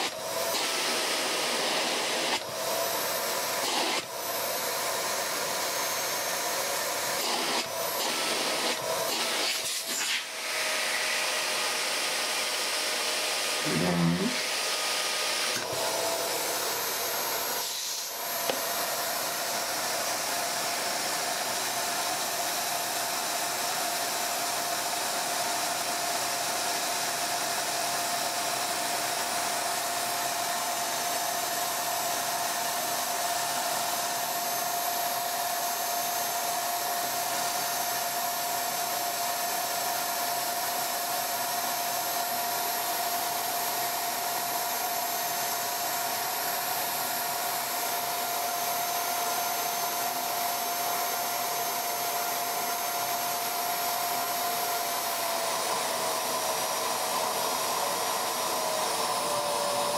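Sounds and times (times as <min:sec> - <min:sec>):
vacuum cleaner motor whine: 0:00.0 - 0:59.9.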